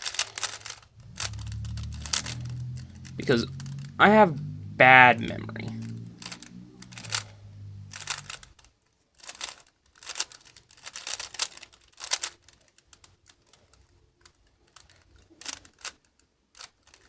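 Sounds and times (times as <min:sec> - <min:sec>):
rubik's cube layers clicking: 0:00.0 - 0:03.9, 0:05.7 - 0:07.3, 0:07.9 - 0:17.0.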